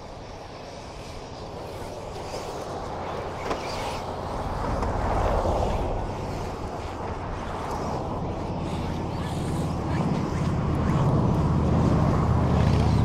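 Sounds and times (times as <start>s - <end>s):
radio-controlled trucks racing: 0.0s - 13.0s.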